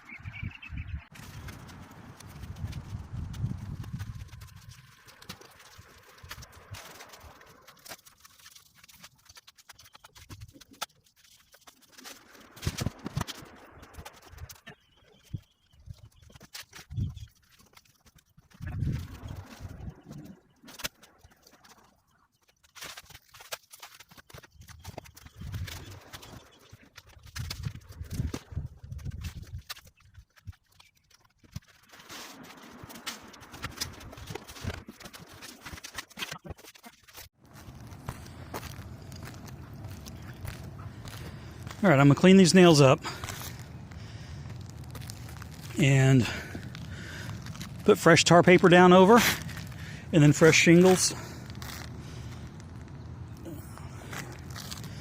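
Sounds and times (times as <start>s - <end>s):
hand work on shingle roof: 1.1s - 55.0s.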